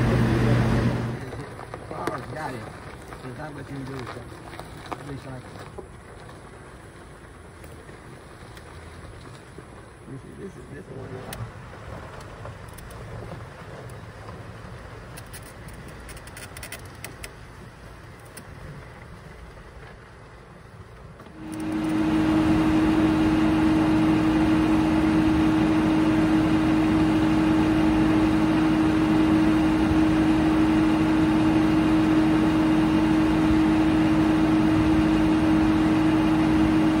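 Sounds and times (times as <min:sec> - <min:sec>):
diesel engine hum: 0:00.0 - 0:37.0
vehicle riding rumble: 0:00.0 - 0:37.0.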